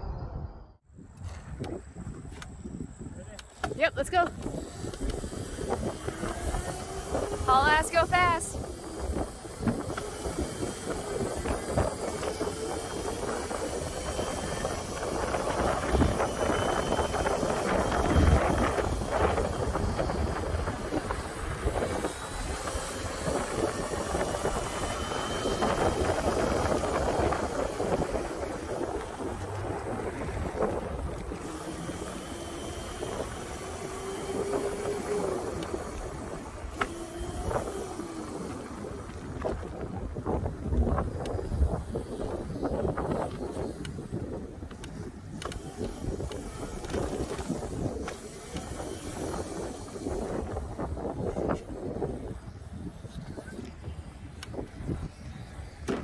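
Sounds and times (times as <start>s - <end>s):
wind and tyre noise: 0.0s - 56.0s
high electric motor whine: 2.3s - 52.6s.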